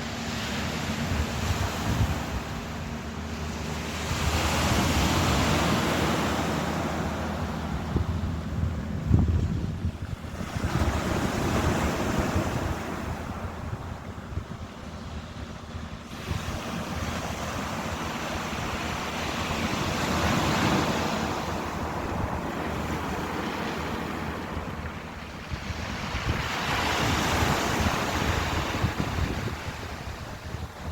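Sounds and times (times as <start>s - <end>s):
ocean waves breaking: 0.0s - 30.9s.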